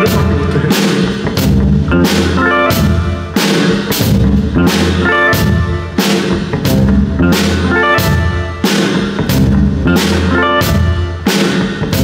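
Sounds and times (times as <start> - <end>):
drum kit hitting hard: 0.0 - 12.0
live rock band playing: 0.0 - 12.0.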